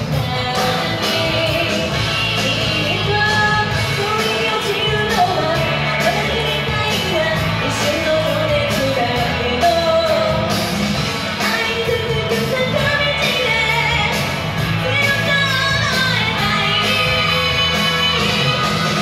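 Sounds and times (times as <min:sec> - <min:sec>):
woman singing into microphone: 0:00.0 - 0:10.5, 0:11.4 - 0:19.0
amplified backing music: 0:00.0 - 0:19.0.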